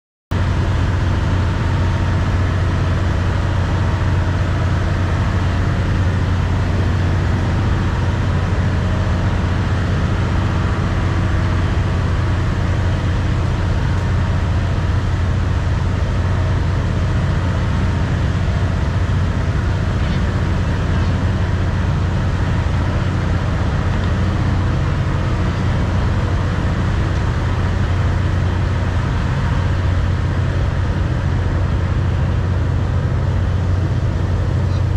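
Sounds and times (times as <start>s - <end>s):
train rumbling: 0.4s - 34.9s.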